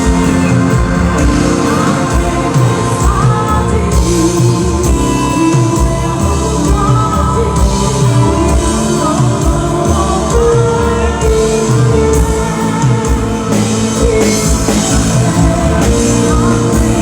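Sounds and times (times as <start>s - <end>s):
band music with singing: 0.0s - 17.0s.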